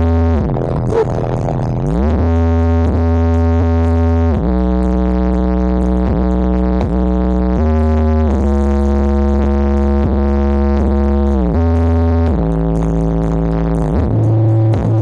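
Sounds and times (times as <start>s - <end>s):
synthesizer music with deep bass: 0.0s - 15.0s.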